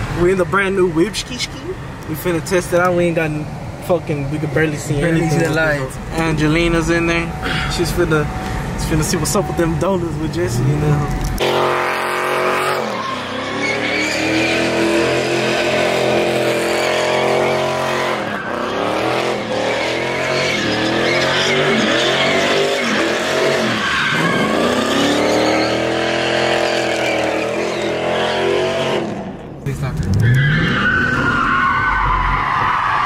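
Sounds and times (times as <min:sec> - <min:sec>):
car engine revving: 0:00.0 - 0:32.4
tyres squealing: 0:04.1 - 0:28.9, 0:30.2 - 0:33.0.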